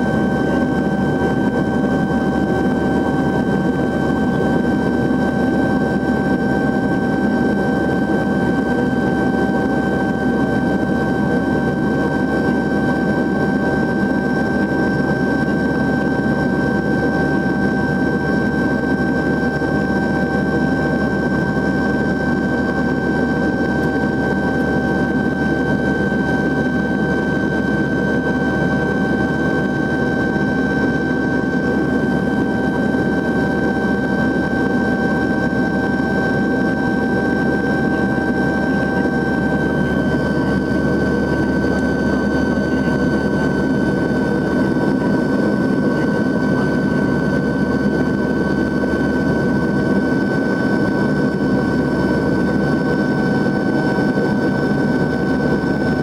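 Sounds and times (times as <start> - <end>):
turboprop airliner cabin noise: 0.0 - 56.0.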